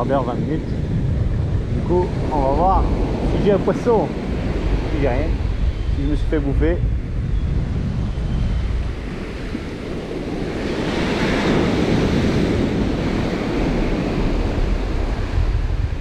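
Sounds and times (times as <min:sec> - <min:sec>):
ocean surf breaking on beach: 0:00.0 - 0:05.9, 0:07.9 - 0:16.0
wind buffeting microphone: 0:00.0 - 0:16.0.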